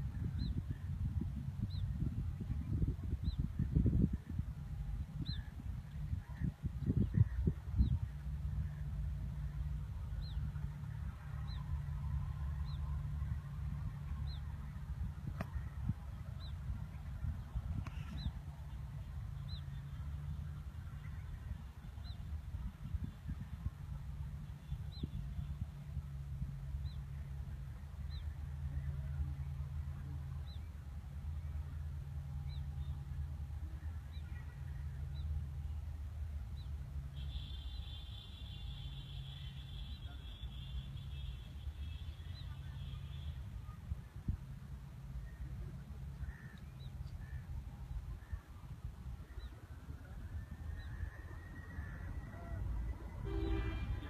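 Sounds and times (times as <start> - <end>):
wind rumble on microphone: 0.0 - 37.1, 41.9 - 54.0.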